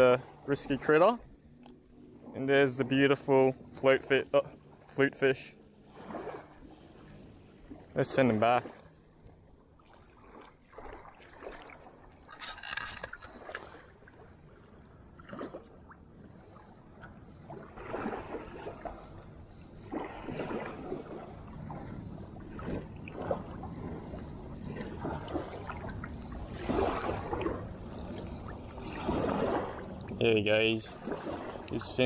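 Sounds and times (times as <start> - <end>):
shallow water sloshing: 0.0 - 32.0.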